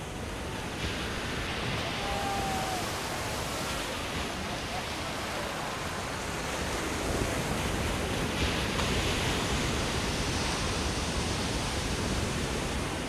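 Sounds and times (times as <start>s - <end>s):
surf breaking over rocks: 0.2s - 13.0s.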